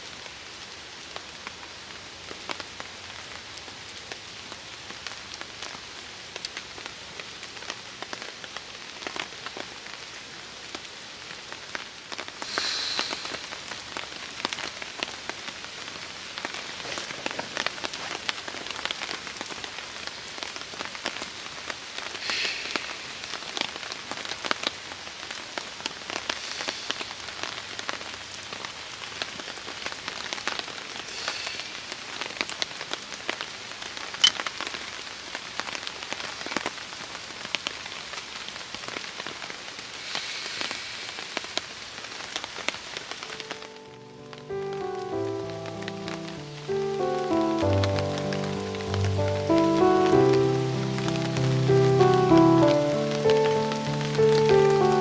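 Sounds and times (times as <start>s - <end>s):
rain pattering on a tarp: 0.0s - 55.0s.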